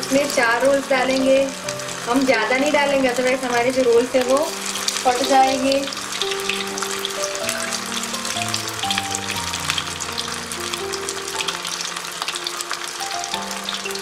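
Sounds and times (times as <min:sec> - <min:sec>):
food deep-frying in oil: 0:00.0 - 0:14.0
soft background music: 0:00.0 - 0:14.0.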